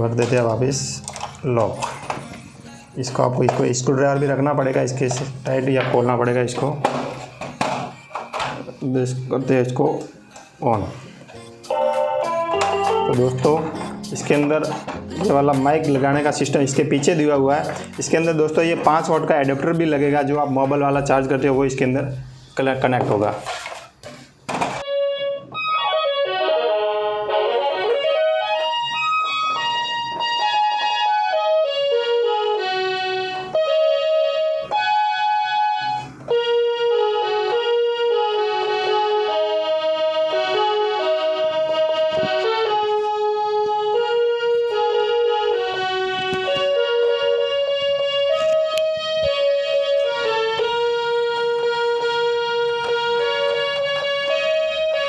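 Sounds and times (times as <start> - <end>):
toy keyboard playing melody: 0.0 - 21.0, 24.8 - 55.0.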